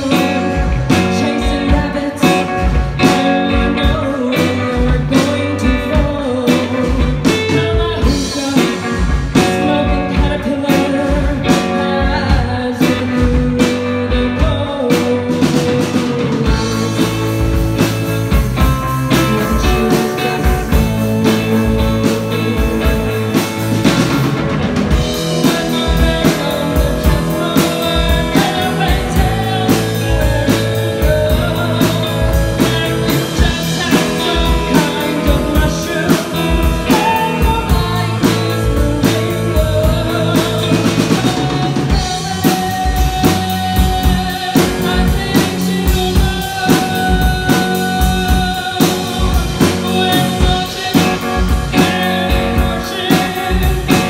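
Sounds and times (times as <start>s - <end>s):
bass guitar: 0.0s - 54.0s
drum kit beat: 0.0s - 54.0s
electric guitars: 0.0s - 54.0s.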